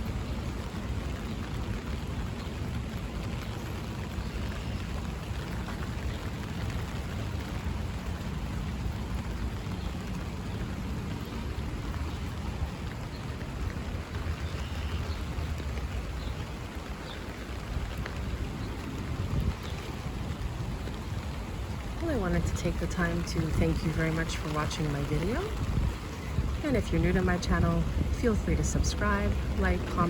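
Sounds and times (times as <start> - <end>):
rain pattering on an umbrella: 0.0 - 30.0.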